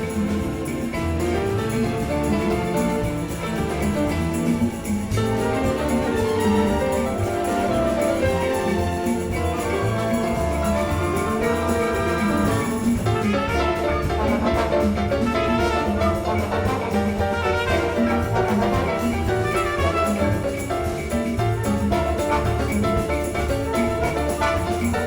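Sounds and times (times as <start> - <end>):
orchestra playing a samba: 0.0 - 25.0
percussion strokes: 0.0 - 25.0
piano: 0.0 - 25.0.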